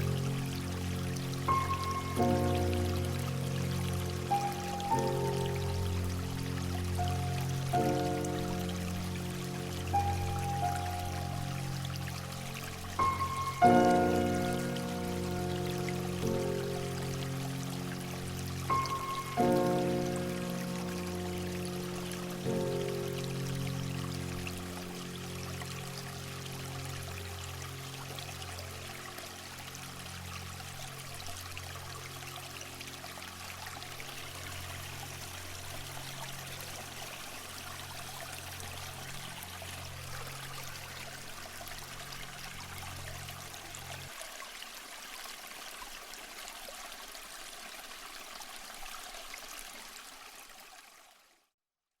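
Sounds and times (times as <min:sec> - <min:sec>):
water trickling: 0:00.0 - 0:51.4.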